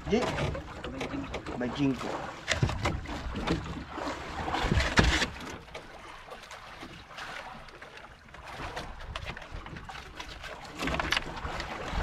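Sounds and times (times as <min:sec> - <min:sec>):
knocks in a small boat: 0:00.0 - 0:12.0.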